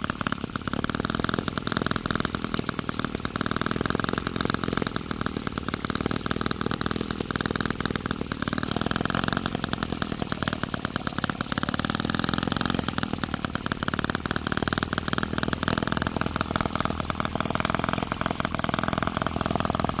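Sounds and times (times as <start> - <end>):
model engine running: 0.0 - 20.0.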